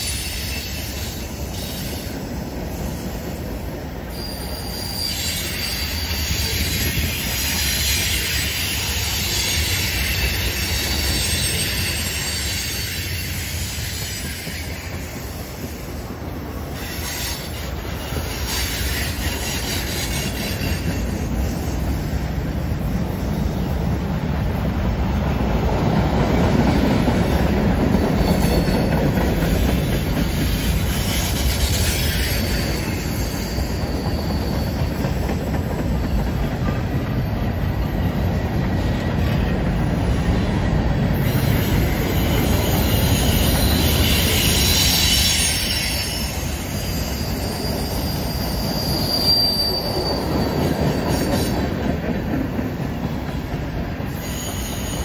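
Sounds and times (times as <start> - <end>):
high wheel squeal: 0.0 - 24.1, 27.2 - 51.9, 54.0 - 55.0
freight cars rumbling on rails: 0.0 - 55.0.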